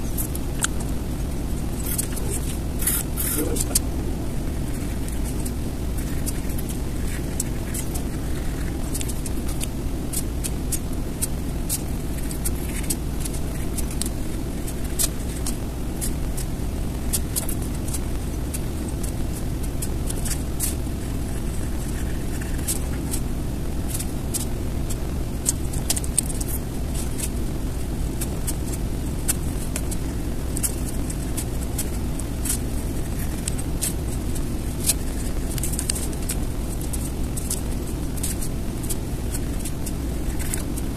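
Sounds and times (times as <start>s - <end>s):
low background rumble: 0.0s - 40.9s.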